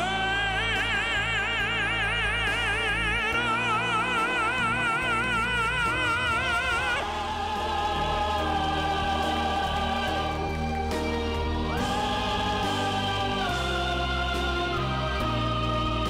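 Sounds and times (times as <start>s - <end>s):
operatic tenor singing: 0.0s - 16.0s
sustained instrumental accompaniment: 0.0s - 16.0s.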